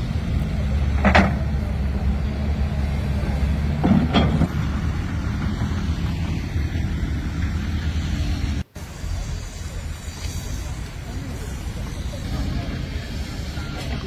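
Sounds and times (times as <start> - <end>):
machinery engine rumble: 0.0 - 14.0.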